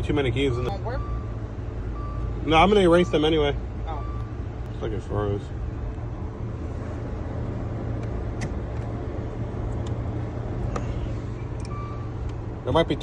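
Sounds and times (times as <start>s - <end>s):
low vehicle hum: 0.0s - 13.0s.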